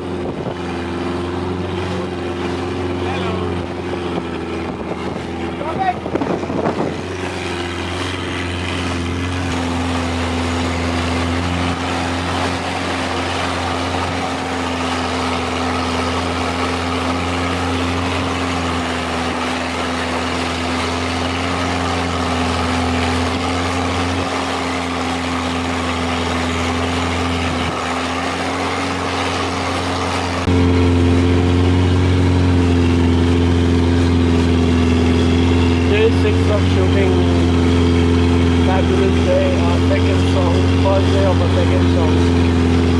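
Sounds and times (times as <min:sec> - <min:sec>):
boat engine drone: 0:00.0 - 0:42.9
water and wind hissing: 0:00.0 - 0:42.9.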